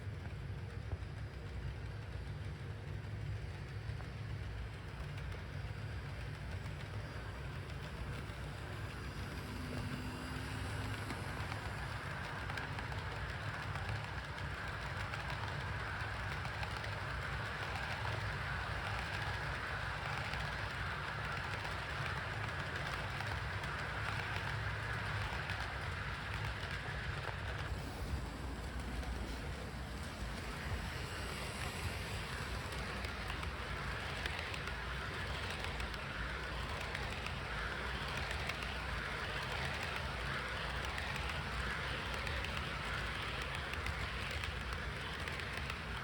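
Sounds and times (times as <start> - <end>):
wheels hissing on rail: 0.0 - 46.0
model train motor humming: 3.6 - 46.0.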